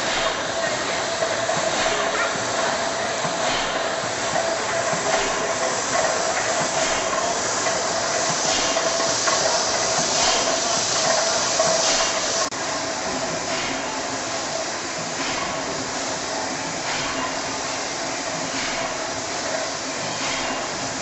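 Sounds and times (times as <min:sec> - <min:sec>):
steam engine hissing and clanking: 0:00.0 - 0:21.0.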